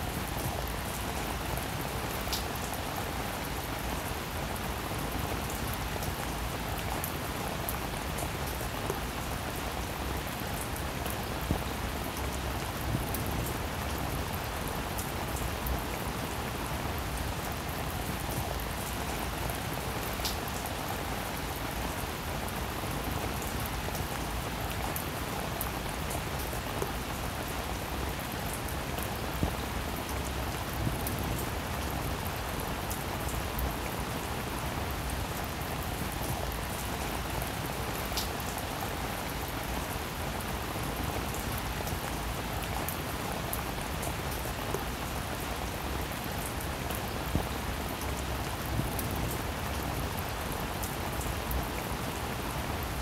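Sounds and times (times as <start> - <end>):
rain on wet pavement: 0.0 - 53.0.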